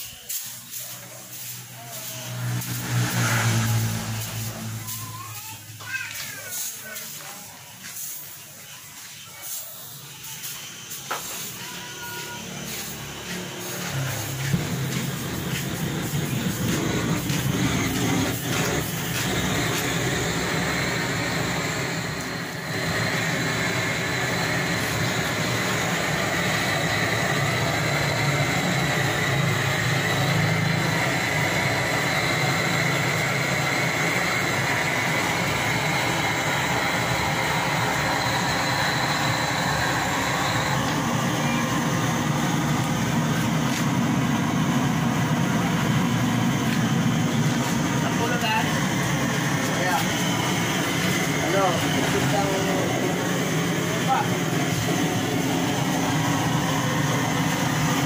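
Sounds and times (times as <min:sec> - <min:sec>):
blowtorch hissing: 0:00.0 - 0:58.0.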